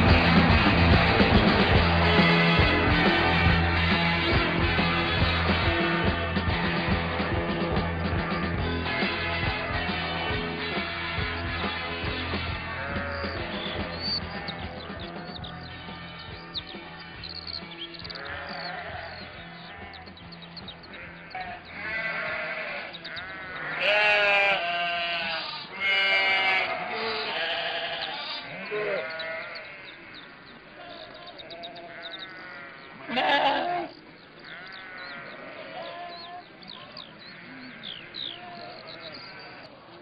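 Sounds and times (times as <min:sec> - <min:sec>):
sheep bleating: 0:02.0 - 0:39.9.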